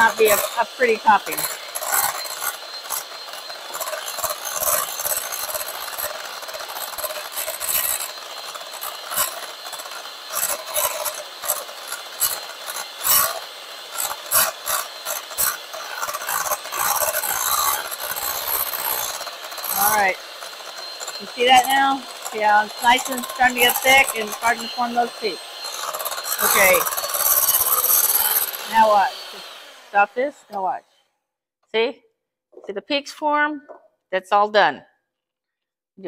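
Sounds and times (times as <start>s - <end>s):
electric hand mixer motor whine: 0.0s - 30.8s.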